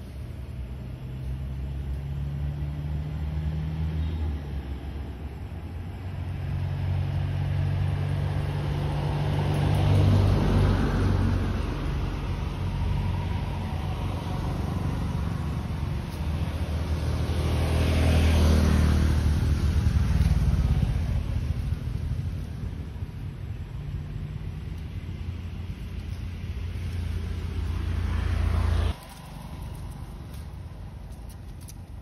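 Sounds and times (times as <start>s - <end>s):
vehicle engines humming: 0.0s - 32.0s
vehicles passing: 0.0s - 32.0s.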